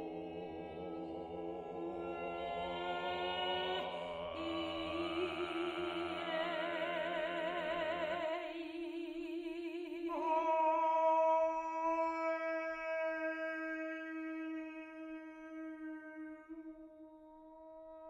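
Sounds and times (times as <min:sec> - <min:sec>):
man singing low held notes: 0:00.0 - 0:16.7.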